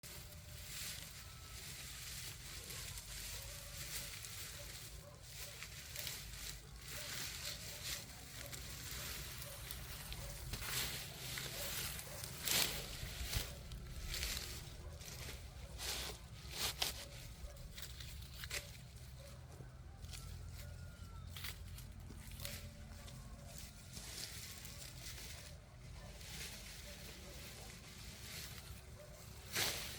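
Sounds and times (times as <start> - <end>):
corn leaves rustling and tearing: 0.0 - 19.3, 20.2 - 29.9.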